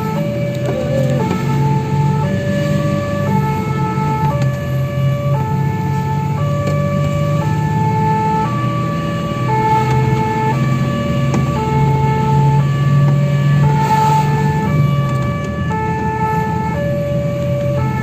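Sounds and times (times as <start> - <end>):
truck engine drone: 0.0 - 18.0
two-tone siren: 0.0 - 18.0.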